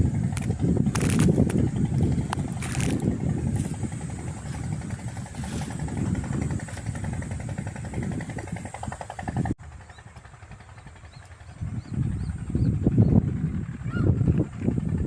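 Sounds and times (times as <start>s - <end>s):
engine running with firing pulse: 0.0s - 15.0s.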